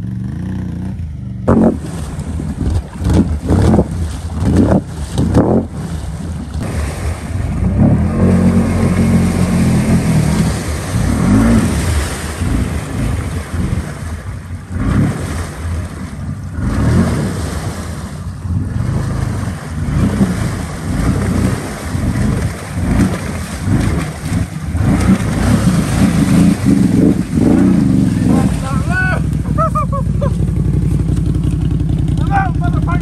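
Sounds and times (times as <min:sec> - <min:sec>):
atv engine revving: 0:00.0 - 0:33.0
tyres splashing in mud: 0:01.5 - 0:32.9.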